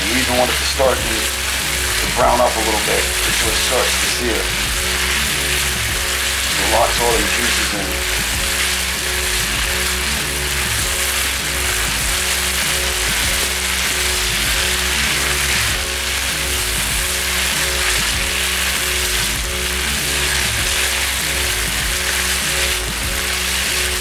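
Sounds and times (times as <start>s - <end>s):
background music with beat: 0.0s - 24.0s
chicken sizzling in frying pan: 0.0s - 24.0s.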